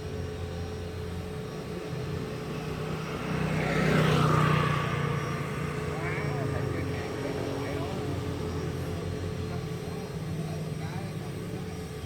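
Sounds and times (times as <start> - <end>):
rc helicopter rotor and motor: 0.0 - 12.0.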